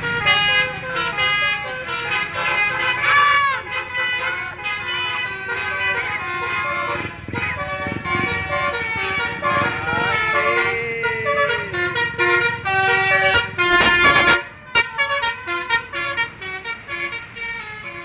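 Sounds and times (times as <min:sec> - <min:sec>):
bus musical horn playing: 0:00.0 - 0:18.0.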